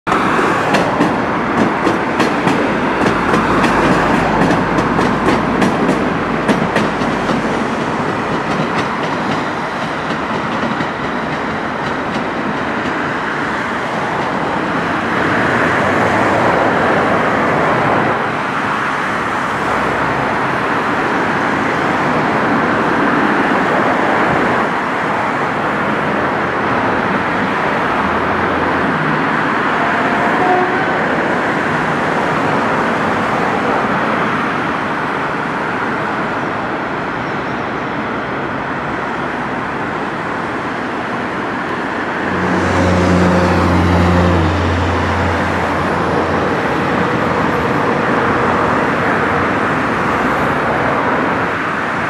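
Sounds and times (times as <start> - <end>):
diesel train running past: 0.1 - 52.0.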